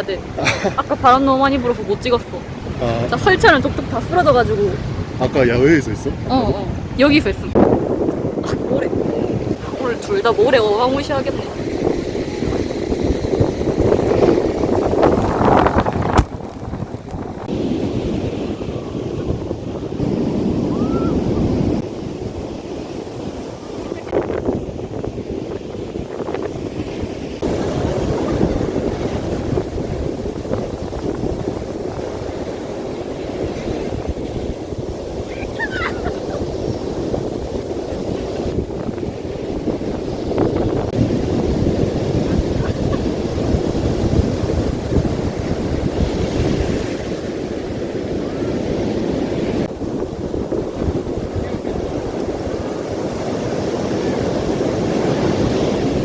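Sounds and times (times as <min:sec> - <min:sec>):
sea surf: 0:00.0 - 0:56.0
strong wind on microphone: 0:00.0 - 0:56.0.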